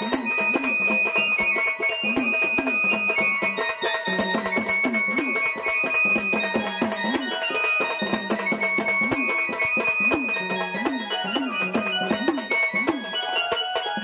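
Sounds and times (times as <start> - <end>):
drum with pitch-bending strokes: 0.0 - 14.0
high reedy melody: 0.0 - 14.0.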